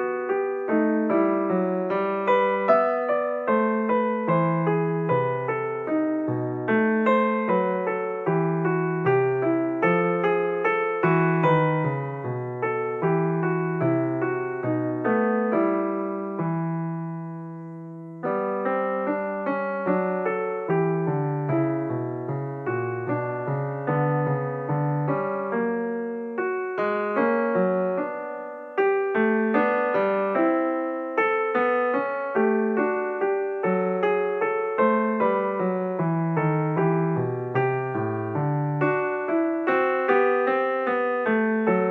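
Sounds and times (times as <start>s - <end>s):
gentle piano music: 0.0s - 41.9s.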